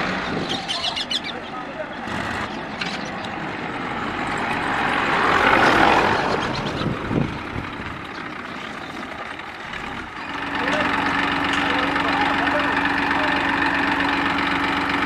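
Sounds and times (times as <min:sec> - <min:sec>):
tractor engine passing: 0:00.0 - 0:15.0.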